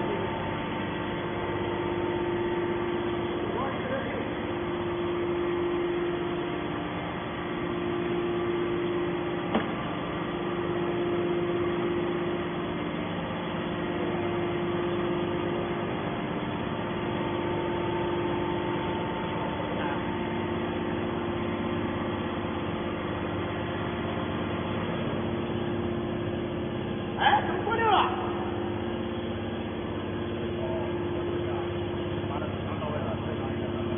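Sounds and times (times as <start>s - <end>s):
hydraulic motor and pump humming: 0.0s - 33.9s.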